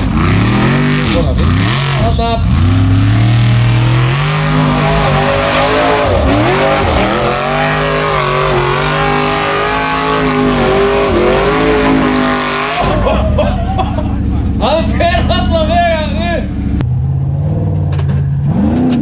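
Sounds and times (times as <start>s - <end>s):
buggy engine revving hard: 0.0s - 16.8s, 18.4s - 19.0s.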